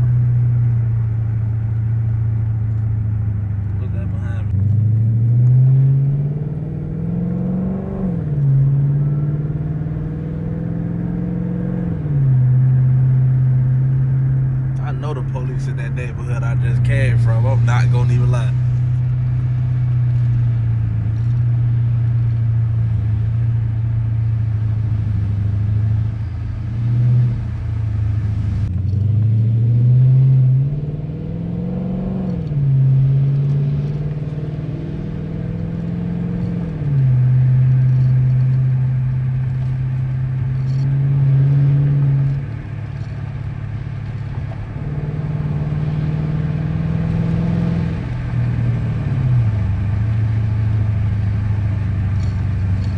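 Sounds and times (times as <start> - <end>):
car engine and exhaust driving: 0.0 - 52.9.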